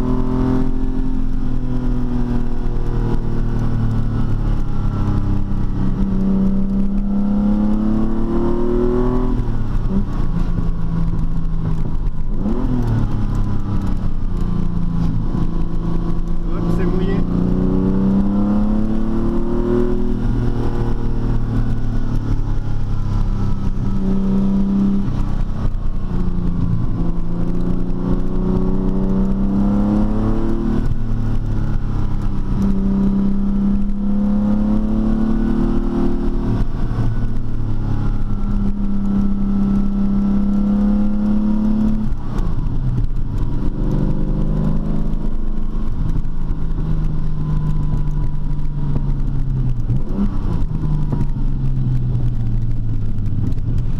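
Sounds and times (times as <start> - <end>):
car engine accelerating through gears: 0.0 - 53.9.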